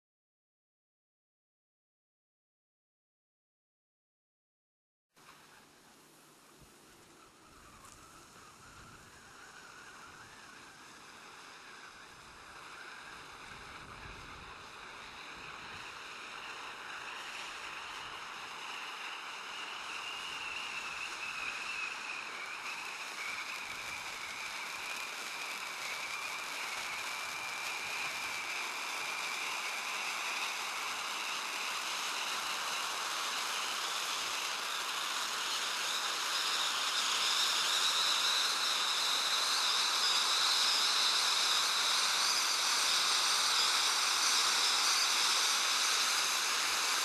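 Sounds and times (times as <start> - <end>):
ground firework hissing: 5.2 - 47.0.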